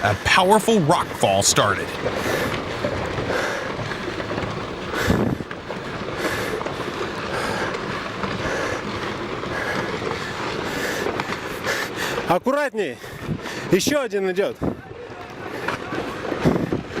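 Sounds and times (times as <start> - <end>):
rocks tumbling and clattering: 0.0 - 17.0.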